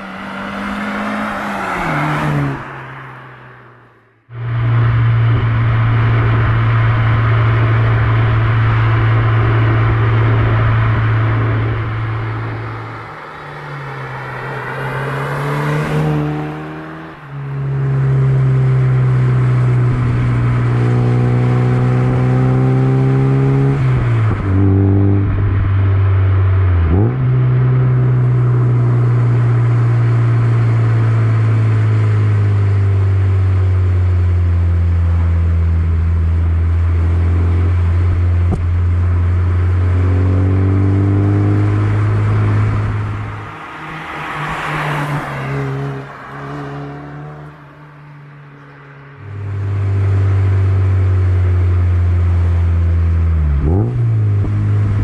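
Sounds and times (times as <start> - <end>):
car engine drone: 0.0 - 55.0.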